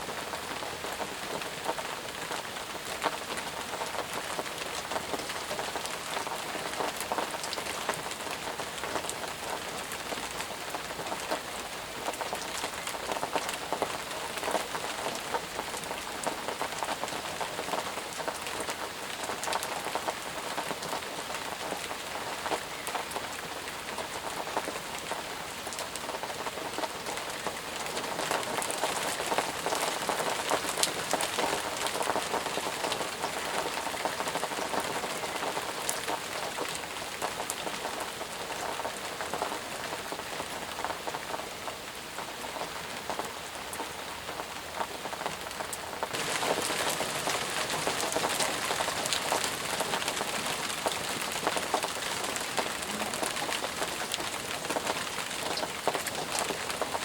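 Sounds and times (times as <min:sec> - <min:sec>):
intense rain hissing: 0:00.0 - 0:57.0
raindrops ticking: 0:00.1 - 0:57.0.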